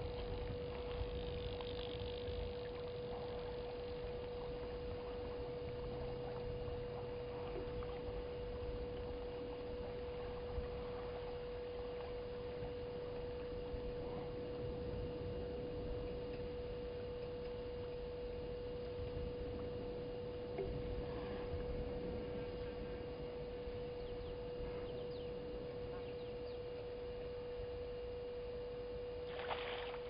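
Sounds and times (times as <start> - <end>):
steady mid-pitched hum: 0.0 - 30.0.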